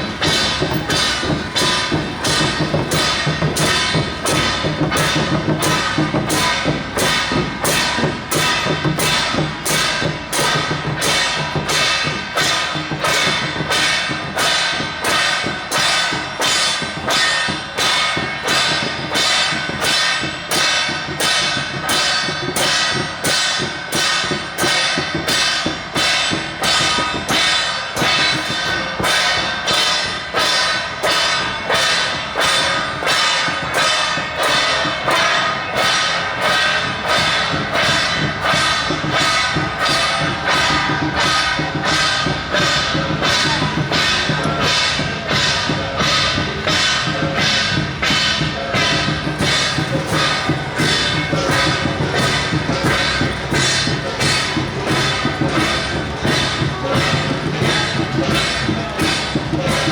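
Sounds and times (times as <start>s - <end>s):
drum beating: 0.0s - 59.9s
gongs and cymbals ringing: 0.0s - 59.9s.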